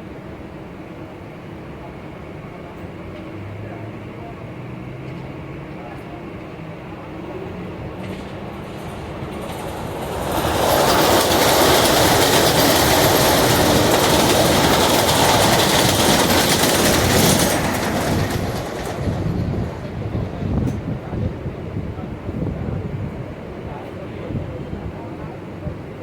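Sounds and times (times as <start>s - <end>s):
train clickety-clack on rails: 4.2s - 26.0s.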